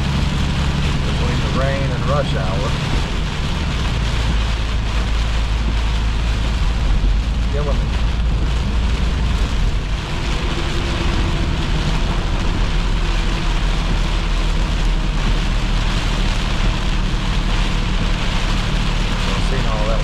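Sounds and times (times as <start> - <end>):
diesel engine droning: 0.0 - 20.0
heavy rain on truck cab: 0.0 - 20.0.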